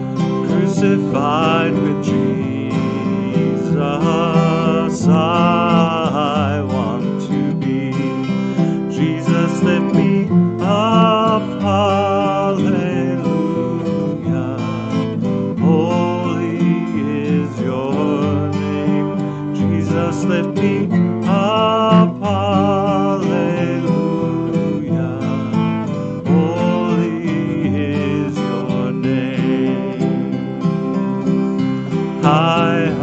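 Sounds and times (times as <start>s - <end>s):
acoustic guitar strumming: 0.0s - 33.0s
person singing: 0.0s - 33.0s.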